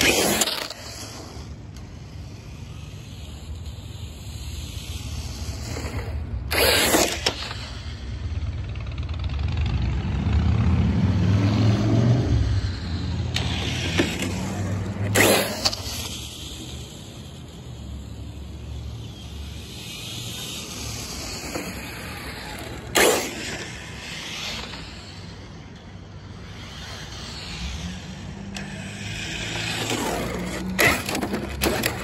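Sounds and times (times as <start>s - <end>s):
rc truck rumbling over pavement: 0.0s - 32.0s.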